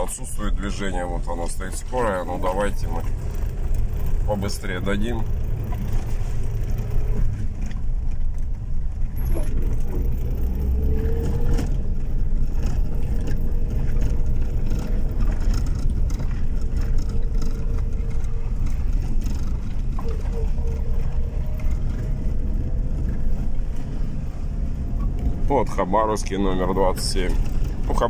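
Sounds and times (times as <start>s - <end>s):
low rumble of engine and tyres: 0.0s - 28.0s
light knocks and rattles: 1.4s - 28.0s.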